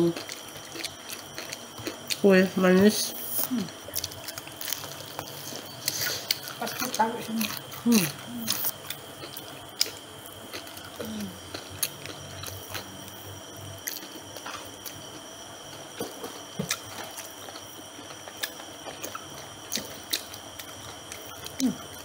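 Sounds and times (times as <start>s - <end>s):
people chewing crunchy fried chicken: 0.0s - 22.0s.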